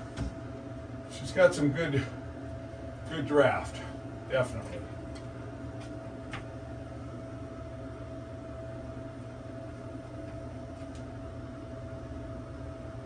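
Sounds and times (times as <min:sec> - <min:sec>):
exhaust fan running: 0:00.0 - 0:13.0.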